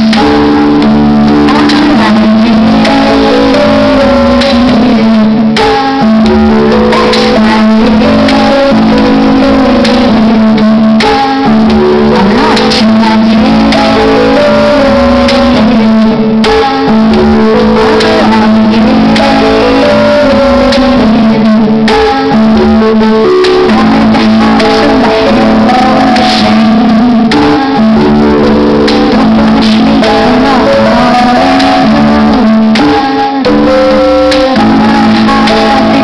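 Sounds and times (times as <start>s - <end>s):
loud amplified guitar music: 0.0s - 36.0s.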